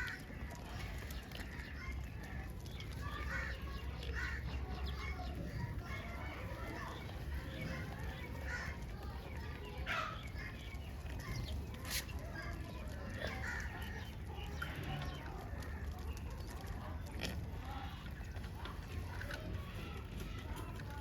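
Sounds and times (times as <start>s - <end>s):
birds clucking and chirping: 0.0s - 21.0s.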